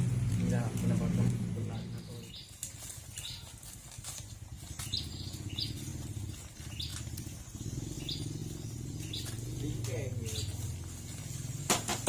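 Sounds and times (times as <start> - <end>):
small bird chirping: 0.8 - 11.7.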